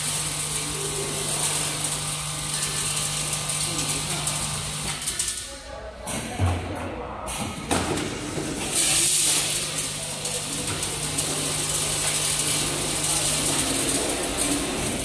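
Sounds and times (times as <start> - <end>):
steady machine hum: 0.0 - 5.9, 8.0 - 15.0.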